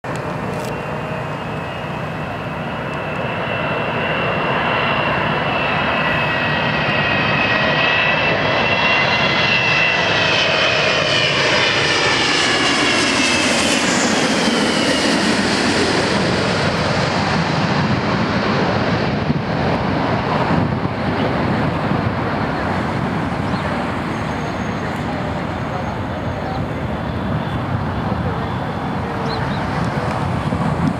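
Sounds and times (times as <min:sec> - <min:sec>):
jet airliner passing low: 0:00.1 - 0:30.9.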